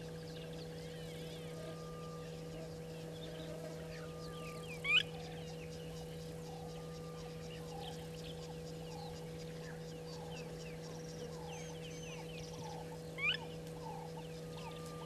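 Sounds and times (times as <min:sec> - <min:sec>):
steady low hum: 0:00.0 - 0:15.0
wild birds chirping and whistling: 0:00.0 - 0:15.0.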